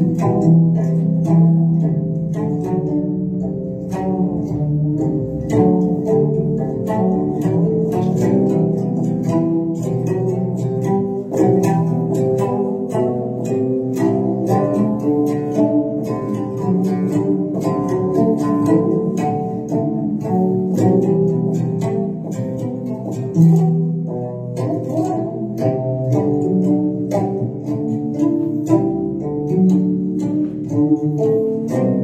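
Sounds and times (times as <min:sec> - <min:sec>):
plucked string instrument music: 0:00.0 - 0:32.0.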